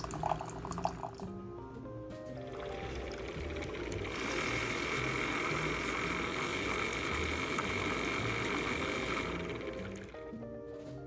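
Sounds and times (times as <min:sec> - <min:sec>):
soft background music bass line: 0:00.0 - 0:11.0.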